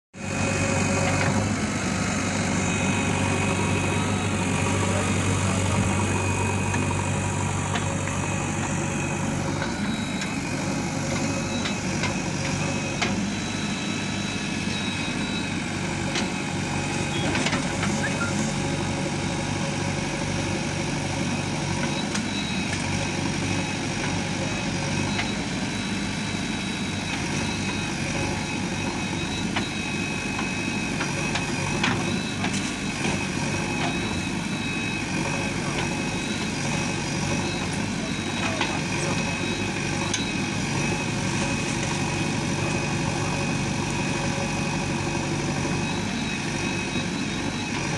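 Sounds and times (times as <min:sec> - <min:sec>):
diesel engines running: 0:00.2 - 0:47.9.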